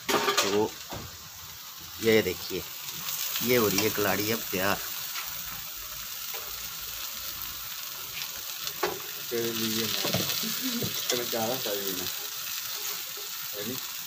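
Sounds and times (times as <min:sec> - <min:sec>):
cheese sizzling on griddle: 0:00.0 - 0:14.0.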